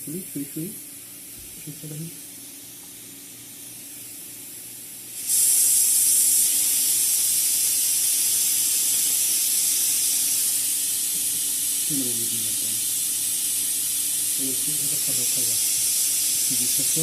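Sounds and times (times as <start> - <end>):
compressed air hissing: 2.2 - 17.0.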